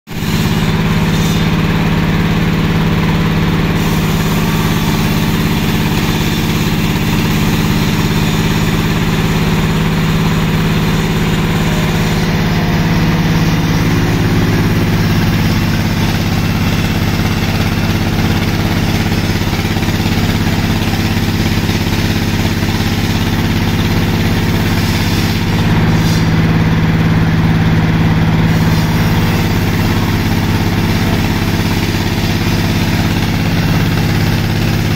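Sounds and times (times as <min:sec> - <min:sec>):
sawmill machinery drone: 0:00.1 - 0:34.9
saw cutting log hiss: 0:00.2 - 0:34.9.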